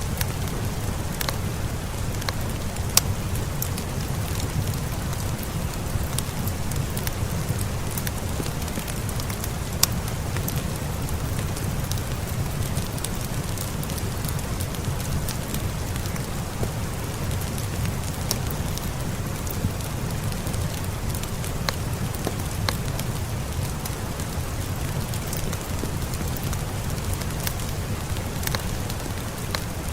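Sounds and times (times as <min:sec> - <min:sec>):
steady rain: 0:00.0 - 0:29.9
wood fire crackling: 0:00.0 - 0:29.9.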